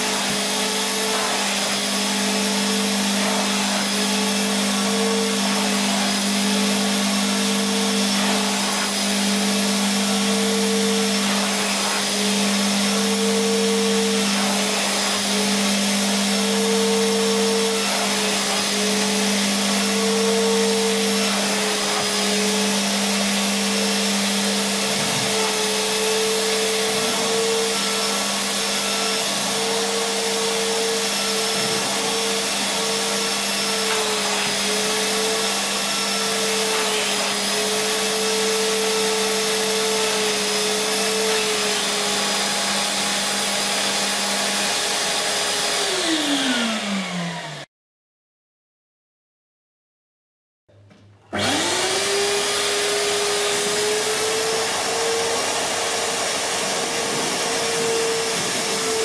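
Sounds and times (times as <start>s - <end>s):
vacuum cleaner motor running: 0.0s - 47.7s, 51.3s - 59.0s.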